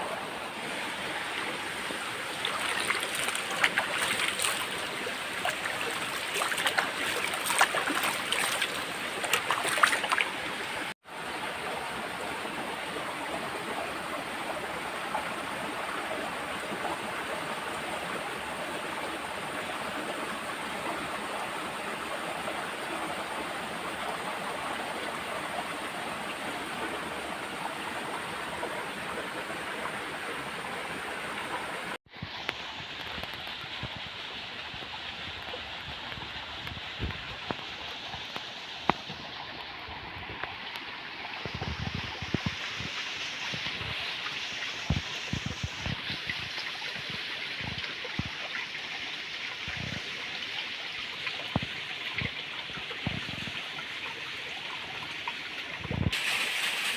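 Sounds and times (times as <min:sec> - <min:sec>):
stream water gurgling: 0:00.0 - 0:56.9.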